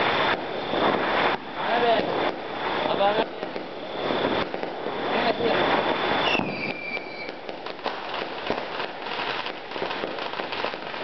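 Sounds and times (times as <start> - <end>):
firecrackers popping: 0.0 - 11.0
firework whistle: 0.0 - 11.0.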